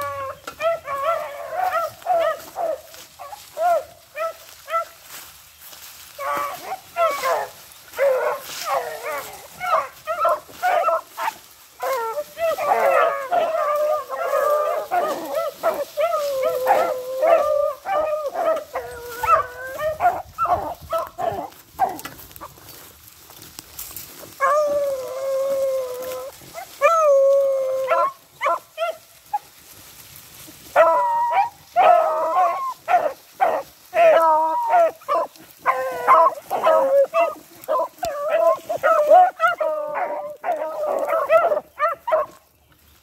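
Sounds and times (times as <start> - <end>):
dogs barking: 0.0 - 5.2, 6.2 - 22.6, 26.0 - 29.5, 30.6 - 42.5
hounds baying and howling: 0.0 - 42.9.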